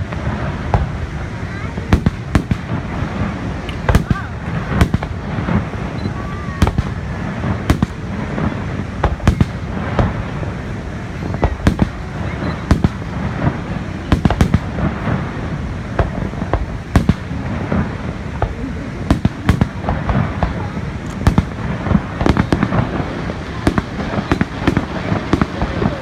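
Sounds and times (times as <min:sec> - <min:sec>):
fireworks bangs: 0:00.0 - 0:26.0
low rumble: 0:00.0 - 0:26.0.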